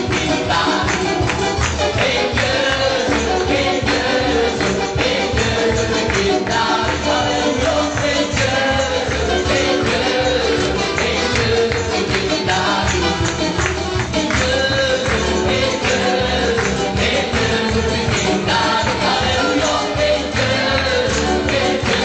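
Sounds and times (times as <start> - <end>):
keyboard: 0.0 - 22.0
people singing into microphones: 0.0 - 22.0
percussion beat: 0.0 - 22.0.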